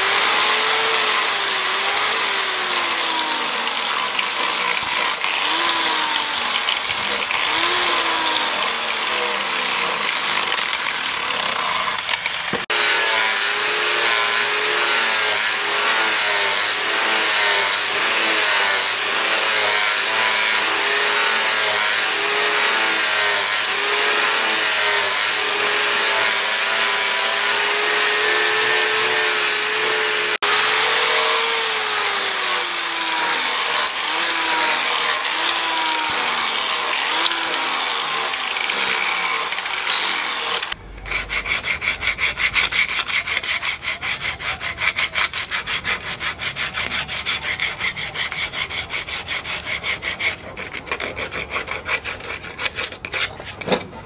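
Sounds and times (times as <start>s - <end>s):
angle grinder grinding steel: 0.0s - 54.0s
hand sanding wood: 0.0s - 54.0s.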